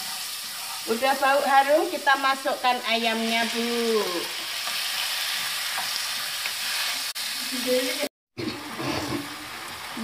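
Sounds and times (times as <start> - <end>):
meat sizzling in hot oil: 0.0 - 8.1, 8.7 - 10.0.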